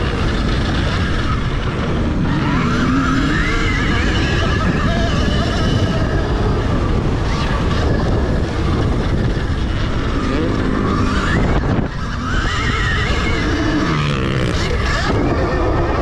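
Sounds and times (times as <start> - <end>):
electric dirt bike motor whine: 0.0 - 16.0
loud rush of noise: 0.0 - 16.0.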